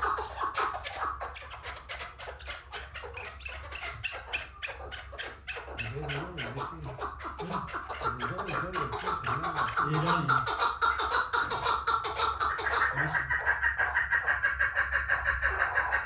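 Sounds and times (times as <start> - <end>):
partridge clucking calls: 0.0 - 16.0.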